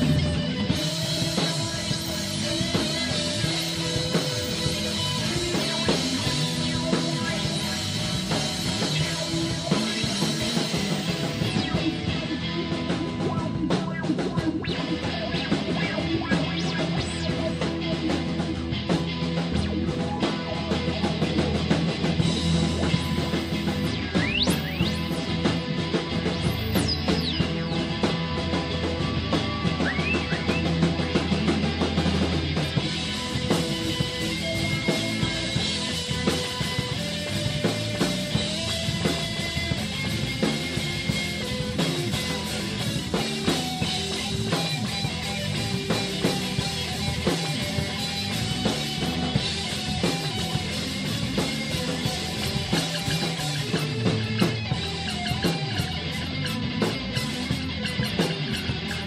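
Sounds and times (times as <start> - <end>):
drum kit beat: 0.0 - 59.0
rock band jamming: 0.0 - 59.0.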